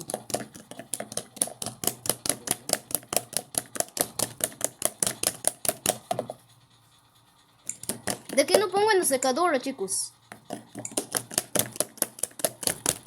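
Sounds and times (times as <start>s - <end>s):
rapid mechanical clicking: 0.0s - 9.4s, 10.2s - 13.0s.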